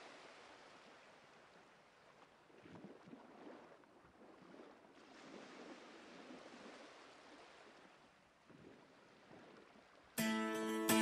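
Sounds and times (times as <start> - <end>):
small waves lapping on shingle: 0.0 - 10.2.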